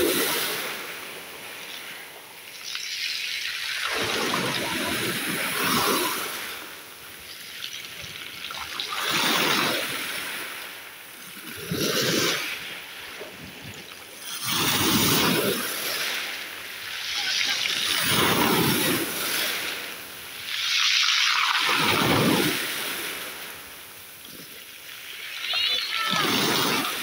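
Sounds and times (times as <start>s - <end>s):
small waves sloshing at shore: 0.0s - 27.0s.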